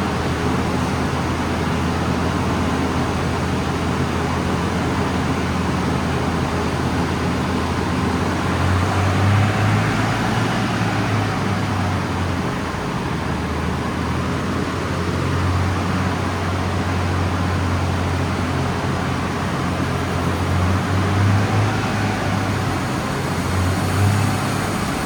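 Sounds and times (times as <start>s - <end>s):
car engine drone: 0.0s - 25.0s
road and tyre noise: 0.0s - 25.0s.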